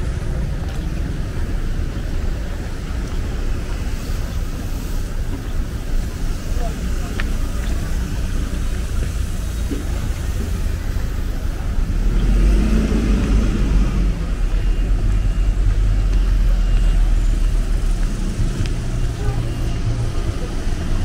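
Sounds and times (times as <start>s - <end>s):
car engines running: 0.0s - 21.0s
low rumble: 0.0s - 21.0s
tyres hissing on wet road: 0.0s - 21.0s.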